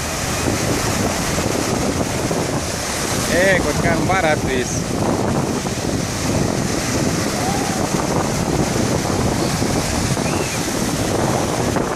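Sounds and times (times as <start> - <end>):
sea waves: 0.0 - 11.9
wind buffeting microphone: 0.0 - 11.9.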